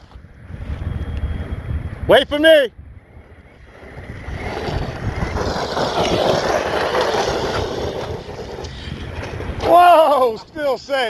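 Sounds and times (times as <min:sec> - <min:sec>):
rc truck driving over dirt: 0:00.0 - 0:11.0.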